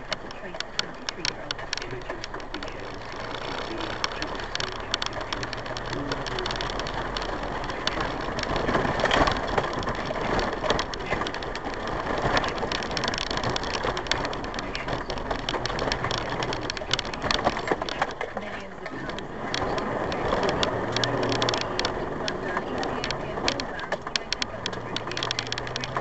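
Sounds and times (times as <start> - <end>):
knocks and rattles: 0.0 - 26.0
tyres crunching on track: 0.0 - 26.0
vehicle running hum: 0.0 - 26.0.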